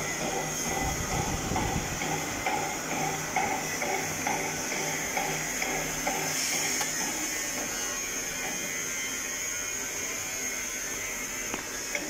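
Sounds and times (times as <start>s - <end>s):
metal lathe whining: 0.0s - 12.0s.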